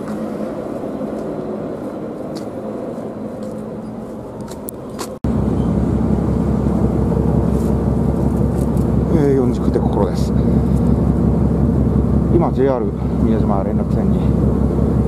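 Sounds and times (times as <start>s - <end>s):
ferry engine low rumble: 0.0s - 15.0s
outdoor background hum: 0.0s - 15.0s.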